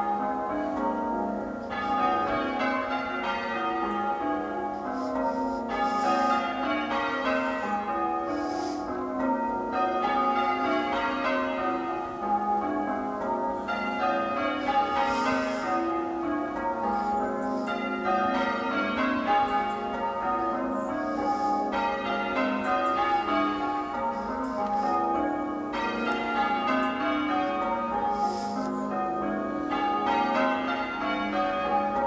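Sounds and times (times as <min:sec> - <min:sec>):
church bells ringing: 0:00.0 - 0:32.0.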